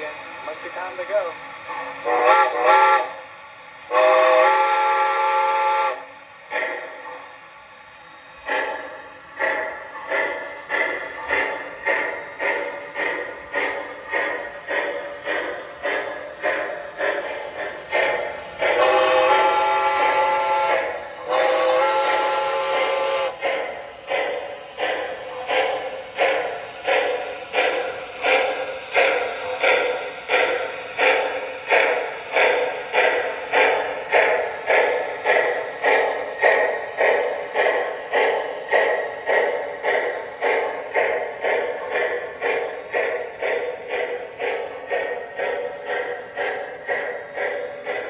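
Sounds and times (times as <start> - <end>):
steam exhaust chuffs: 0.0 - 48.0.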